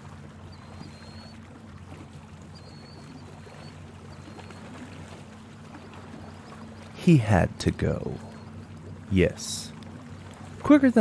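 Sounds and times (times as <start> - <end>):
low hum: 0.0 - 10.7.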